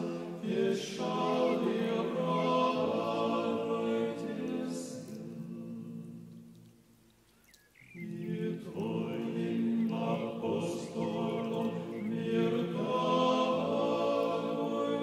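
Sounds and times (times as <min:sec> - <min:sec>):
choir-like chanted notes: 0:00.0 - 0:06.6, 0:07.9 - 0:15.0.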